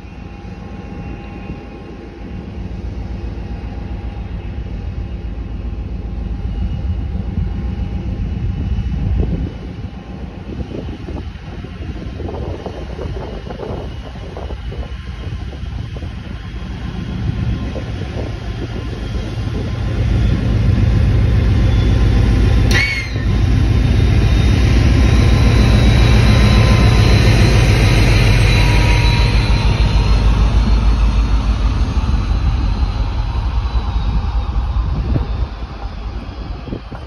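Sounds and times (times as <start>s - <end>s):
diesel locomotive passing: 0.0s - 37.0s
wheels rumbling on rail: 0.0s - 37.0s.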